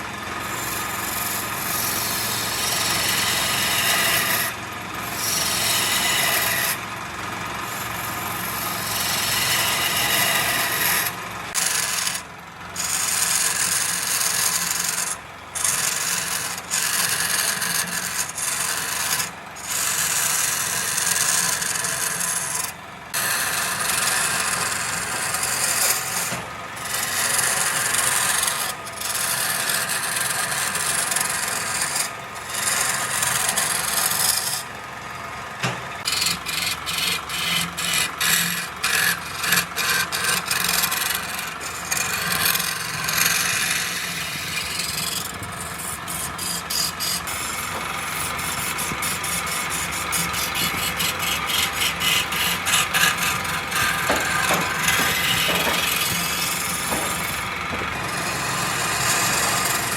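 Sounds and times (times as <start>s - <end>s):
lathe tool scraping wood: 0.0s - 59.9s.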